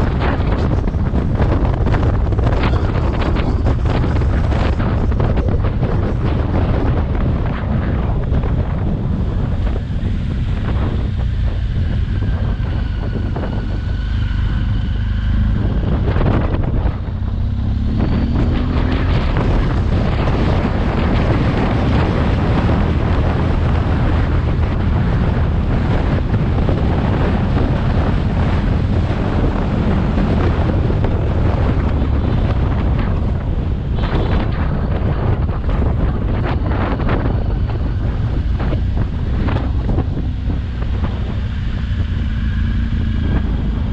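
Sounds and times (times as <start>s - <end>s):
motorcycle engine droning: 0.0s - 43.9s
wind buffeting microphone: 0.0s - 43.9s.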